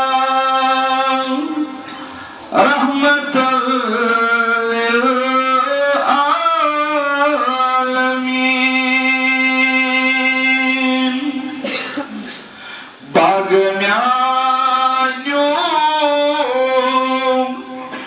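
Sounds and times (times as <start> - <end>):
man singing devotional poem: 0.0 - 18.0.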